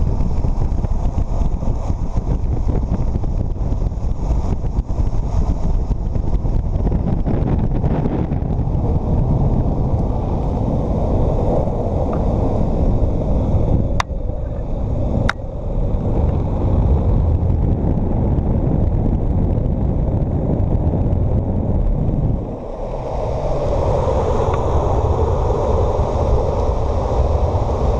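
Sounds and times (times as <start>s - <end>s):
wheels rolling on asphalt: 0.0s - 27.9s
wind buffeting microphone: 0.0s - 27.9s.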